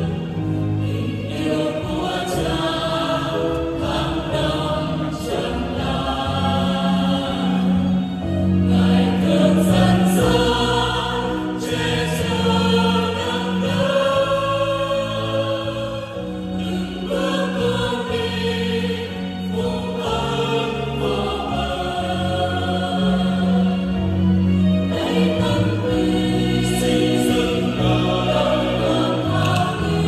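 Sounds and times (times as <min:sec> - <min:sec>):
mixed choir singing a hymn: 0:00.0 - 0:30.0.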